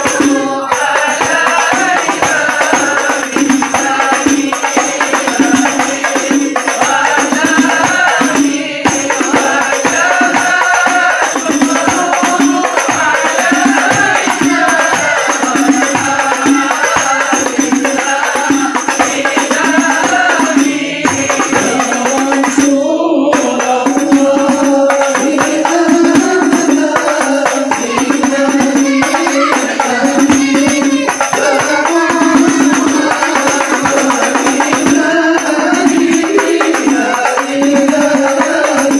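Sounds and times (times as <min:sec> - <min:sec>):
frame drums playing: 0:00.0 - 0:38.9
men singing together: 0:00.0 - 0:38.9.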